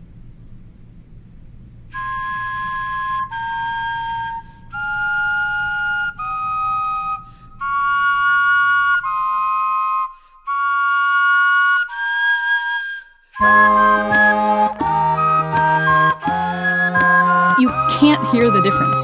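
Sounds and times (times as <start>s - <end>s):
faint low hum: 0.0s - 19.0s
whistly vegetable wind instruments: 1.9s - 19.0s.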